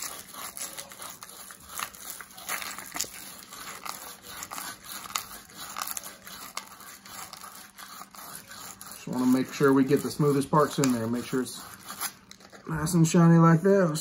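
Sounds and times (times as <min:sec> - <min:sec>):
sandpaper scrubbing copper pipe: 0:00.0 - 0:12.2.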